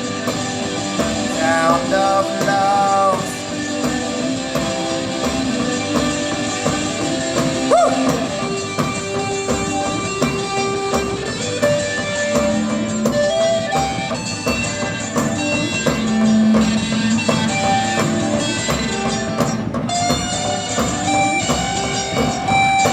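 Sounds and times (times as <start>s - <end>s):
drum kit steady beat: 0.0s - 22.9s
electric guitar playing: 0.0s - 22.9s.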